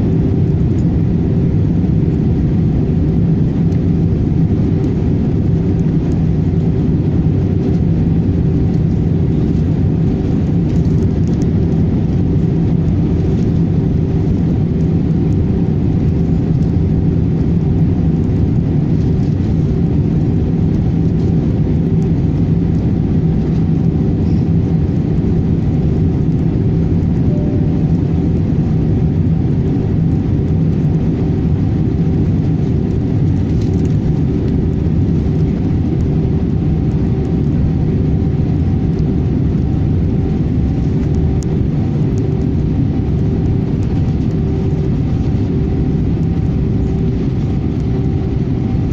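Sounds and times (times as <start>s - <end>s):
jet engines droning: 0.0s - 48.9s.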